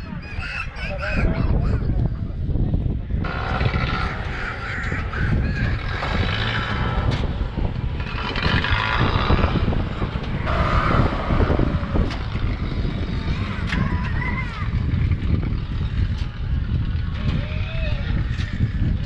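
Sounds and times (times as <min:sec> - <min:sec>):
steady low rumble: 0:01.8 - 0:19.0.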